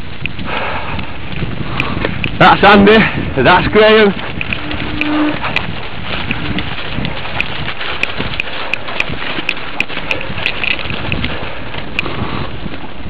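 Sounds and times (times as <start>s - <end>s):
sharp ticks and rattles: 0.0s - 13.0s
wind rushing over microphone: 0.0s - 13.0s.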